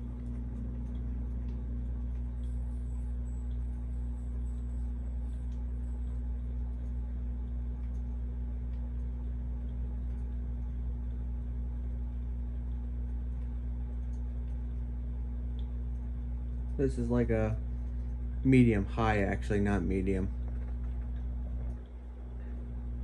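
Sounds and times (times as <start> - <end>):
ceiling fan motor hum: 0.0 - 23.0.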